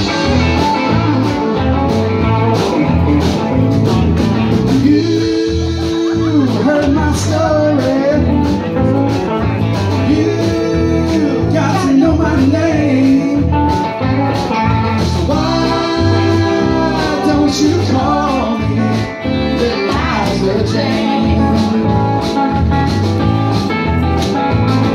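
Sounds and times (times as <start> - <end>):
live country-rock band: 0.0 - 24.9.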